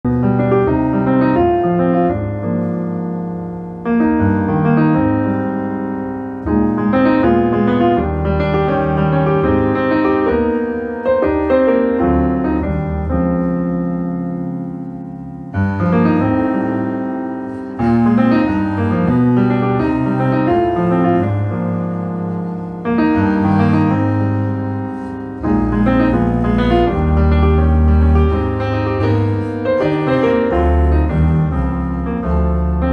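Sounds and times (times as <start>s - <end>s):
solo piano music: 0.0s - 32.9s.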